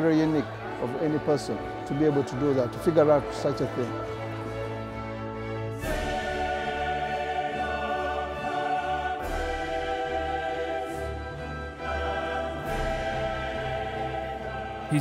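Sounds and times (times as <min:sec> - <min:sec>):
dramatic choir and orchestra music: 0:00.0 - 0:15.0.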